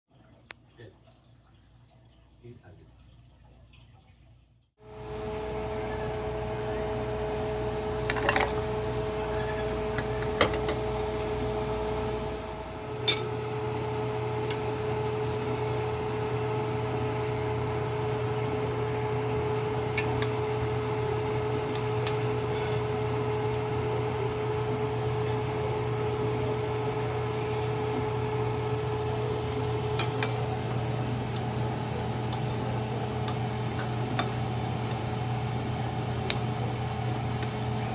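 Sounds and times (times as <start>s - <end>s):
kitchen appliance humming: 4.8s - 37.9s.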